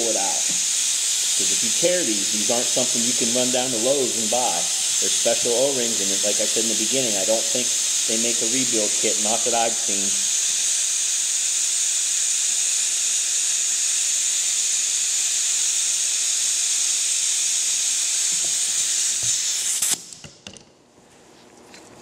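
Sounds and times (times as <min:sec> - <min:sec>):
loud steady hiss: 0:00.0 - 0:20.3.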